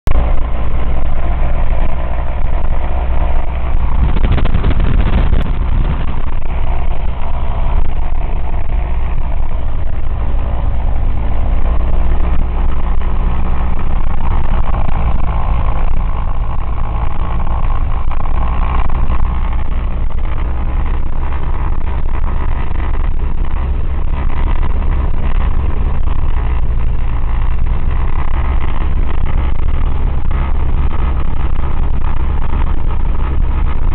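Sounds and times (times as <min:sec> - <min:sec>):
propeller plane engine running: 0:00.0 - 0:33.9.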